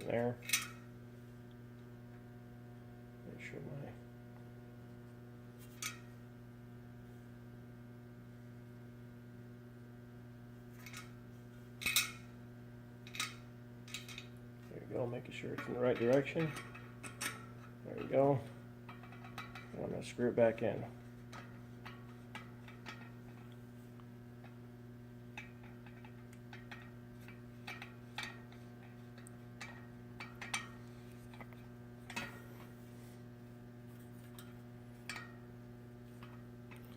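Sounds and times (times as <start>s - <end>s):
electrical hum: 0.0s - 36.9s.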